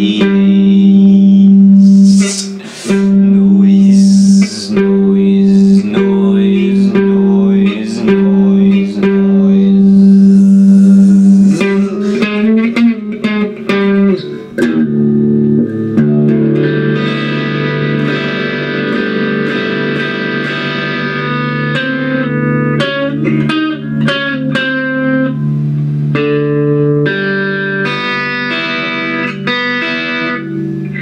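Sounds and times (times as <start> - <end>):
electric guitar solo: 0.0 - 31.0.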